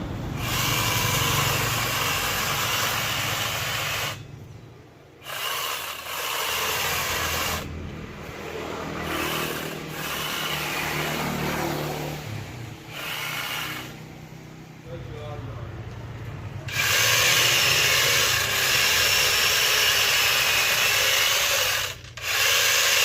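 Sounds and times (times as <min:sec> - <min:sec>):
angle grinder sawing wood: 0:00.0 - 0:14.3, 0:16.6 - 0:23.0.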